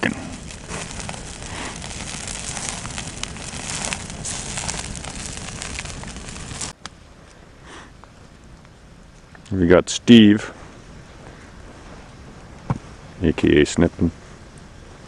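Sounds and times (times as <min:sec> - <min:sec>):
campfire crackling and popping: 0:00.0 - 0:15.0
faint steady hiss: 0:00.0 - 0:15.0.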